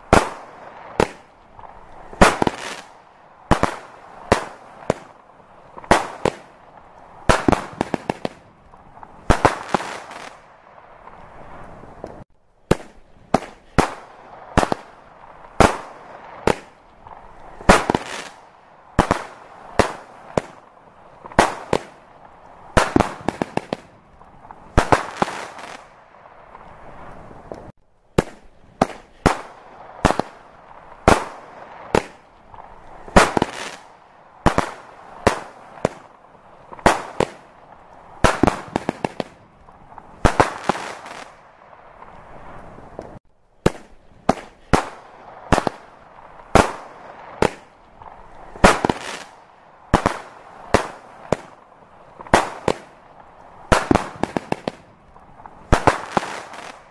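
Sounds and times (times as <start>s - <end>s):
fireworks bursts and bangs: 0.0s - 56.9s.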